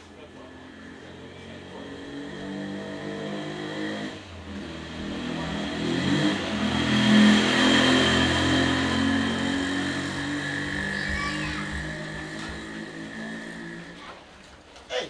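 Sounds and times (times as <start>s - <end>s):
vehicle engine passing: 0.0s - 14.2s.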